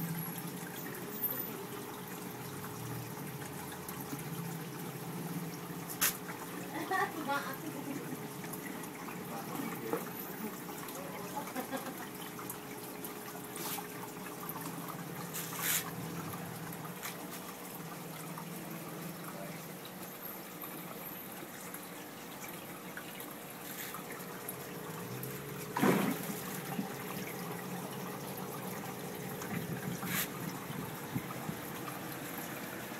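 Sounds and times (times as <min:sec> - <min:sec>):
aquarium water trickling: 0:00.0 - 0:32.9
faint steady hum: 0:00.0 - 0:32.9.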